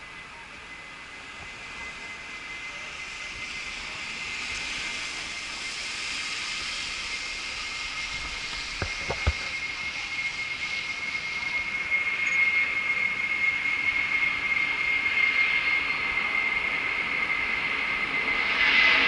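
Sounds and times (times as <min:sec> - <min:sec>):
jet engines on takeoff: 0:00.0 - 0:19.0.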